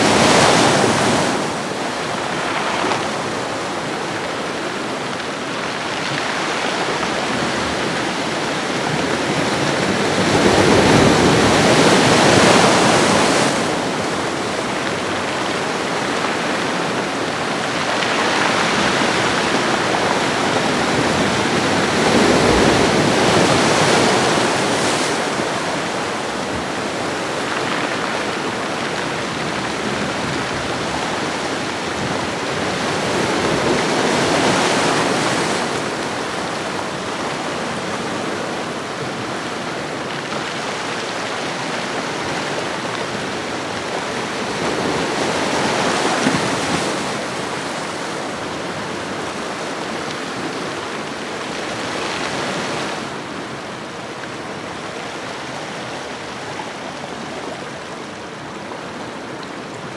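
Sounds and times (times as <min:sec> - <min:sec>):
ocean waves on shoreline: 0:00.0 - 0:58.5.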